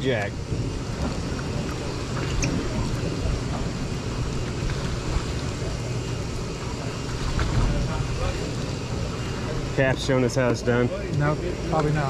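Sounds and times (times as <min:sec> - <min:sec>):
boat motor idling: 0:00.0 - 0:12.0
water wash: 0:00.0 - 0:12.0.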